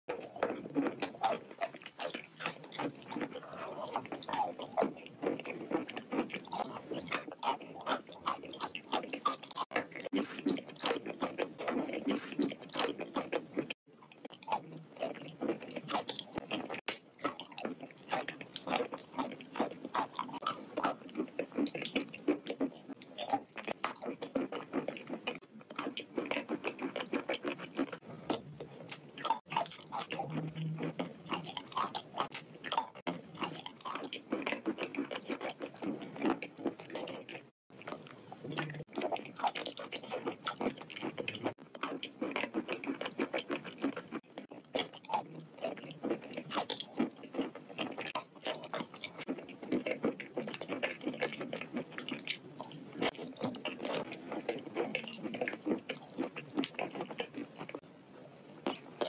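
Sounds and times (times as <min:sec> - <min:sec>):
mouth clicks: 0:00.1 - 0:57.8
squelchy chewing: 0:00.1 - 0:57.9, 0:58.6 - 0:59.0.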